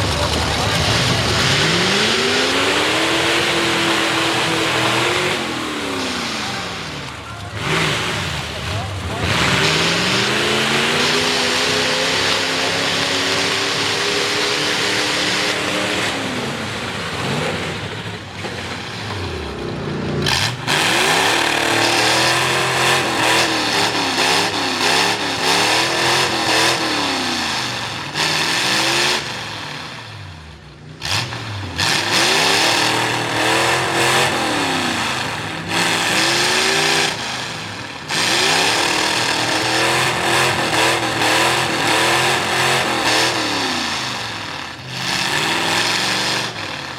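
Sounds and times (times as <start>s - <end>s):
truck engine revving hard: 0.0s - 46.9s.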